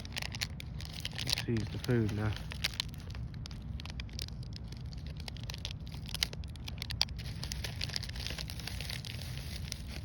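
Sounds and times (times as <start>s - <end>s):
crackling and rustling: 0.0s - 10.0s
steady low rumble: 0.0s - 10.0s.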